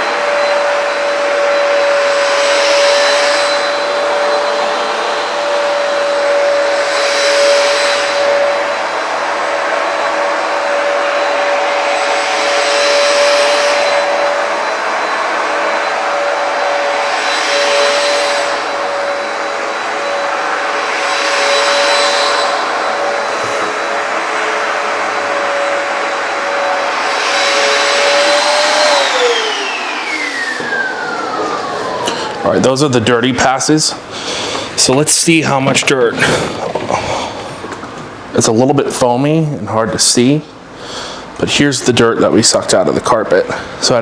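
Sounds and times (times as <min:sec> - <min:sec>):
suction hissing: 0:00.0 - 0:32.9, 0:34.0 - 0:38.3
carpet cleaner running: 0:00.0 - 0:44.0.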